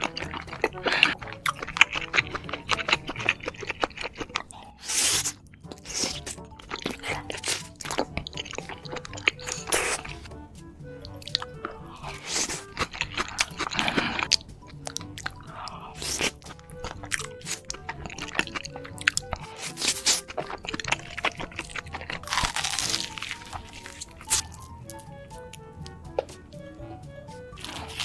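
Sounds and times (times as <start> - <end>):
crunchy bites and wet chewing: 0.0 - 10.4, 11.0 - 26.4, 27.5 - 28.0
light background music: 0.0 - 28.0.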